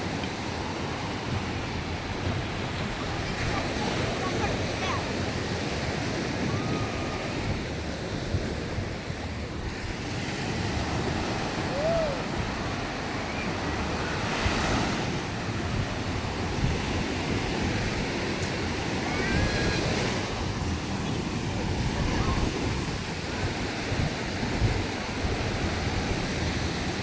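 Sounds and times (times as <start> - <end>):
sea waves washing onto beach: 0.0 - 27.0
wind buffeting microphone: 0.0 - 27.0.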